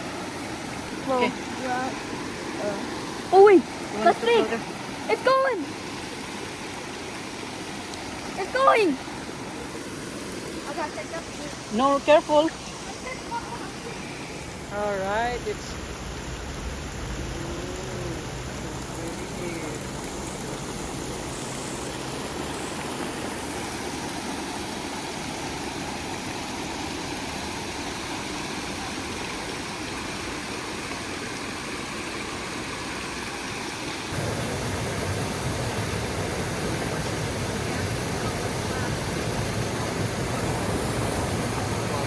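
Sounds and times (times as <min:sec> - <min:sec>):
brook water running over rocks: 0:00.0 - 0:42.0.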